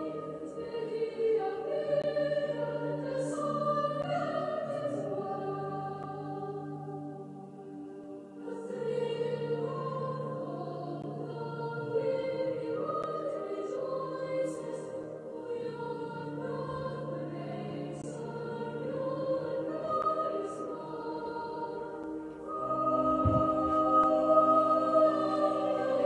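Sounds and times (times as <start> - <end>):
choir singing a carol: 0.0 - 26.0.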